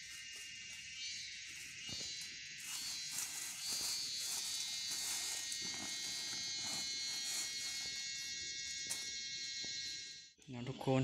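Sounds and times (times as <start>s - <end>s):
dry grass rustling and crackling: 0.0s - 9.1s
insect chorus: 0.0s - 11.0s.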